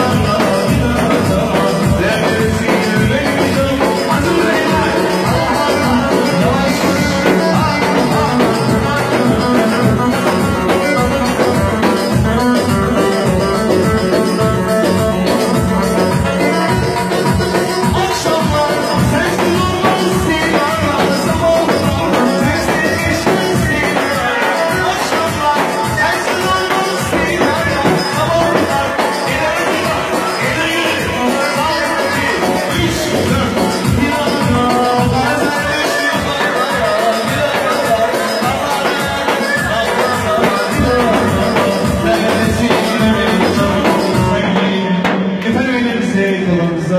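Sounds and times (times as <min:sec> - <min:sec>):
steady drum beat: 0:00.0 - 0:46.1
folk dance music on keyboard: 0:00.0 - 0:46.9
person singing into microphone: 0:00.0 - 0:46.9.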